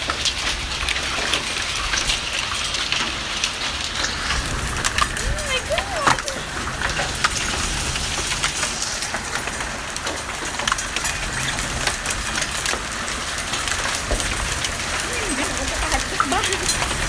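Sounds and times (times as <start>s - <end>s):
hailstones ticking on wood: 0.0s - 17.0s
heavy rain hissing: 0.2s - 17.0s.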